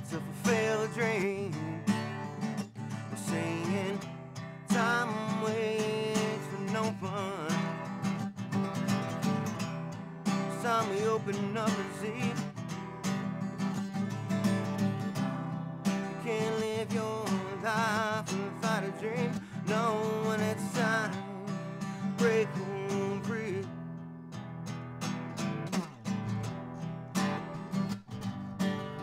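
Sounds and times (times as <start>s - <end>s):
strummed acoustic guitar: 0.0s - 29.0s.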